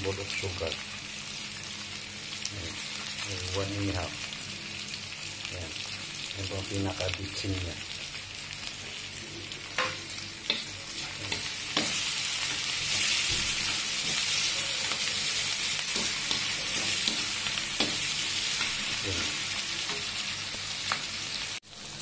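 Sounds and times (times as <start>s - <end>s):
onion sizzling in oil: 0.0s - 22.0s.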